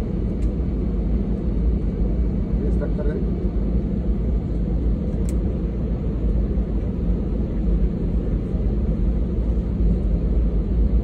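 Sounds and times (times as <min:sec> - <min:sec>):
low rumble of jet engines: 0:00.0 - 0:11.0.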